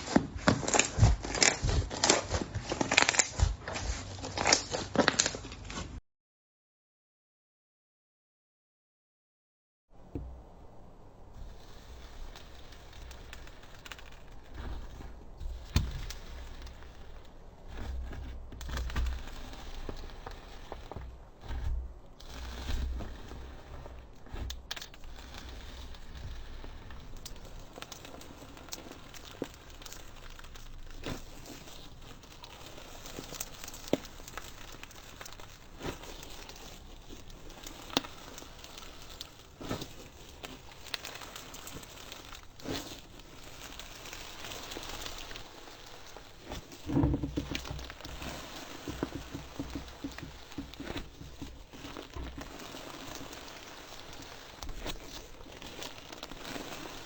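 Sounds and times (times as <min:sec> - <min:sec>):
slime crackling and popping: 0:00.0 - 0:05.6, 0:11.3 - 0:57.0.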